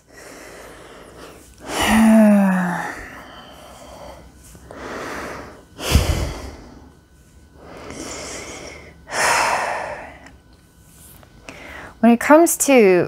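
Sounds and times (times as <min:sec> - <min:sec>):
woman breathing deeply: 0:00.0 - 0:10.4, 0:11.4 - 0:12.0.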